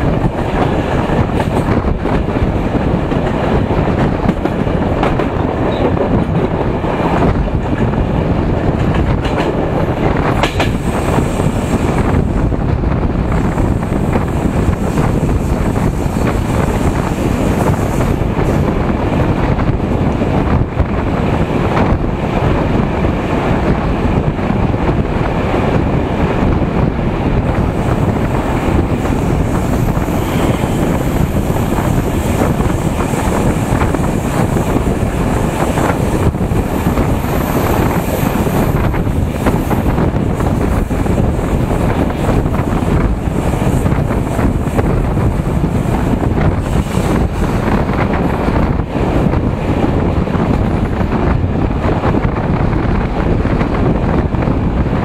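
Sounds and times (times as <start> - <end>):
train running on rails: 0.0 - 55.0
wind buffeting microphone: 0.0 - 55.0.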